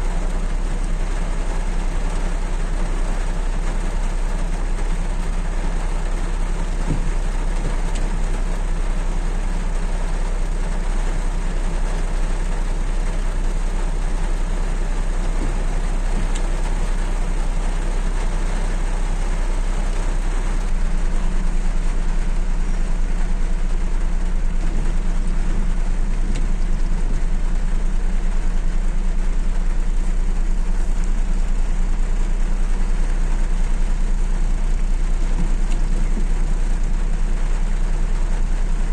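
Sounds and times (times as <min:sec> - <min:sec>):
rain hissing: 0:00.0 - 0:38.9
small car engine idling: 0:00.0 - 0:38.9.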